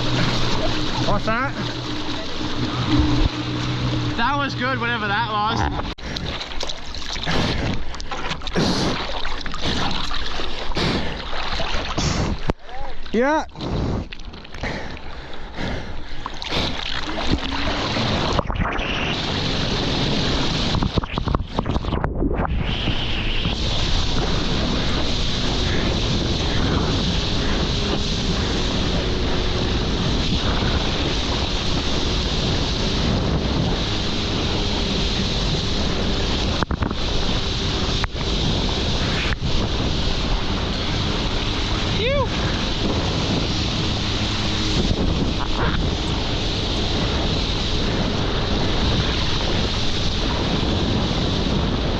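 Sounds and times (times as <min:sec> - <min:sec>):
wind buffeting microphone: 0:00.0 - 0:06.6, 0:07.2 - 0:51.9
jet ski engine: 0:00.0 - 0:51.9
water rushing: 0:00.0 - 0:51.9.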